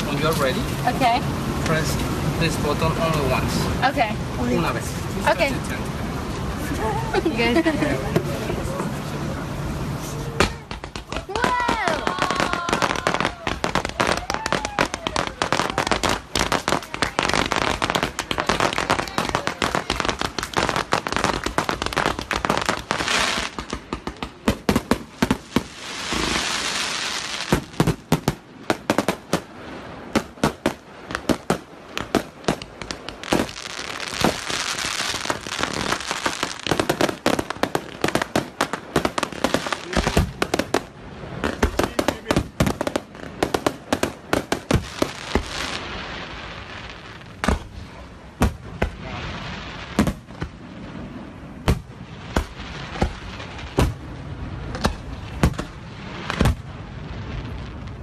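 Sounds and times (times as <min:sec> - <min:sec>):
fireworks bangs and pops: 0:00.0 - 0:09.2, 0:09.9 - 0:58.0
crackling hiss: 0:00.0 - 0:58.0.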